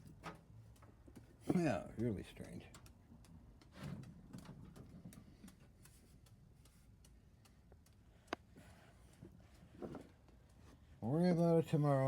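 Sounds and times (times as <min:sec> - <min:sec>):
faint light clicks and ticks: 0:00.0 - 0:11.0.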